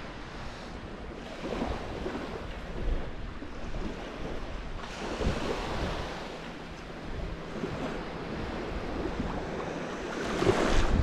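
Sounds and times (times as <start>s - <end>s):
waves breaking on shore: 0.0s - 11.0s
wind rumbling on microphone: 0.0s - 11.0s.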